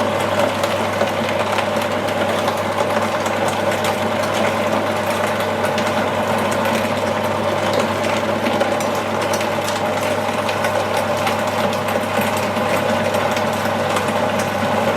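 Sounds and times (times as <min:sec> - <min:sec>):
meat grinder motor humming: 0:00.0 - 0:14.9.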